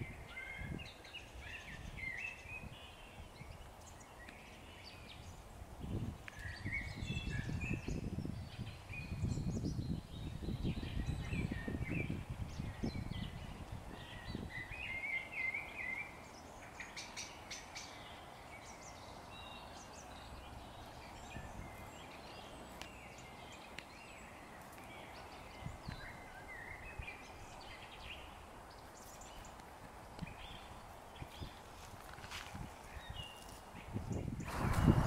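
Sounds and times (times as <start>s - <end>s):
faint outdoor background: 0.0s - 35.0s
small birds chirping: 0.0s - 35.0s.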